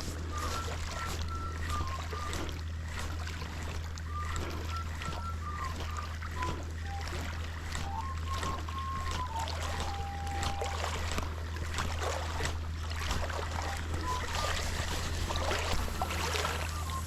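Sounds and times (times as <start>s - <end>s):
short whistling tones: 0.0s - 3.3s, 4.0s - 11.4s, 13.5s - 17.0s
low hum: 0.0s - 17.0s
water splashing at shoreline: 0.0s - 17.0s.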